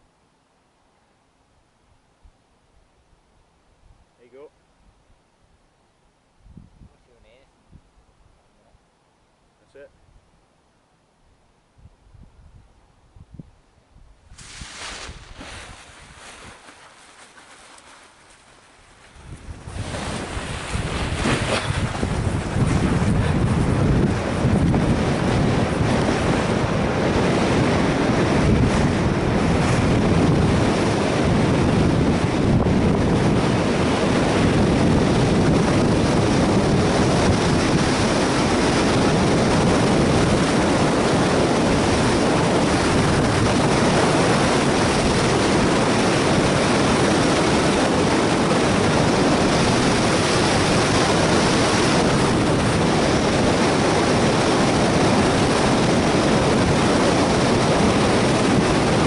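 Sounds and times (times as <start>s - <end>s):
wind buffeting a microphone: 6.4s - 8.4s, 11.7s - 59.0s.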